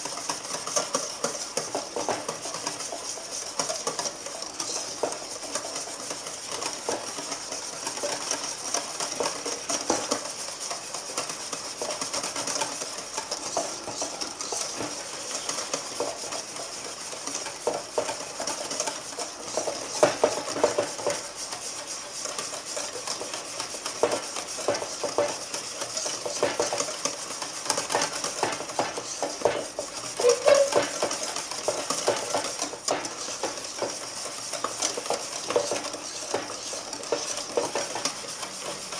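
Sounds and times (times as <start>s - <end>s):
whisk beating in metal bowl: 0.0s - 38.9s.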